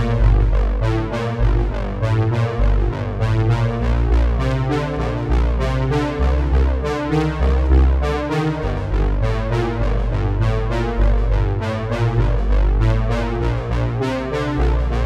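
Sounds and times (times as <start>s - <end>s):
deep bass: 0.0s - 15.0s
synthesizer and keyboard music: 0.0s - 15.0s.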